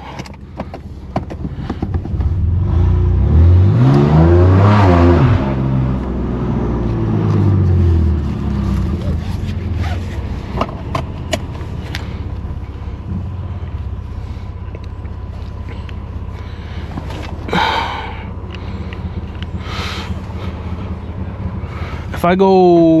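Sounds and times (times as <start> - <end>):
car engine revving: 0.8 - 23.0.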